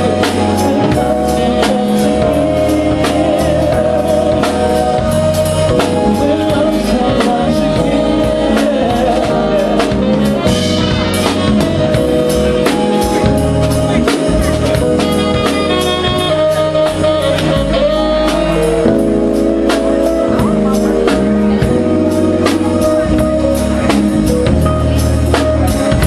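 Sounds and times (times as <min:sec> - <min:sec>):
bass: 0:00.0 - 0:26.0
drum kit beat: 0:00.0 - 0:26.0
keyboards: 0:00.0 - 0:26.0
person singing: 0:00.0 - 0:26.0.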